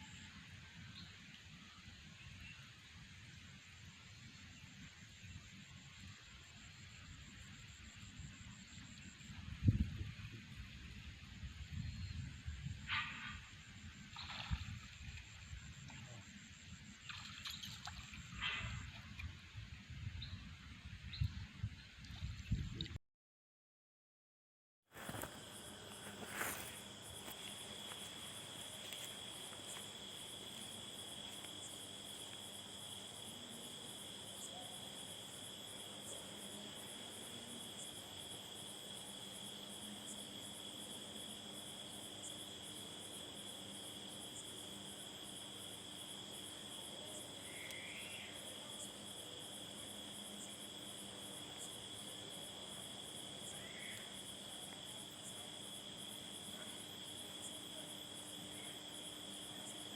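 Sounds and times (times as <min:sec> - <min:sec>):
insects chirring: 0:05.0 - 0:20.4, 0:24.9 - 0:59.9.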